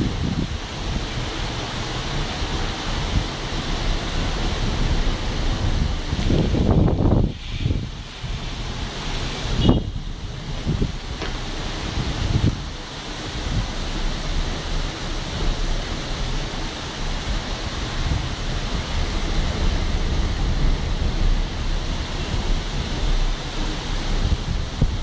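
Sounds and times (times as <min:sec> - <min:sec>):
wind and rain hissing: 0:00.0 - 0:25.0
wind buffeting microphone: 0:00.0 - 0:25.0.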